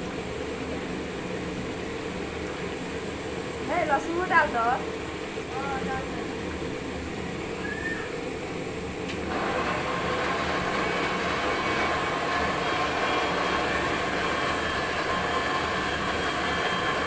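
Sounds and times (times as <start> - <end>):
pot cooking over burner: 0.0 - 17.0.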